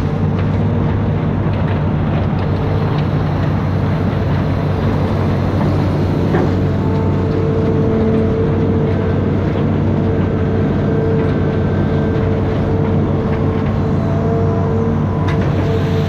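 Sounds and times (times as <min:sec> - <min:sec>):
excavator diesel engine drone: 0:00.0 - 0:16.0.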